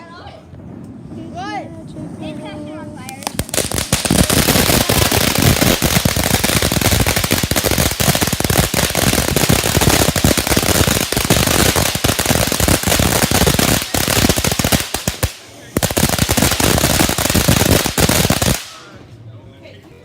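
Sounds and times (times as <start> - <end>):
firecrackers cracking: 2.8 - 19.1.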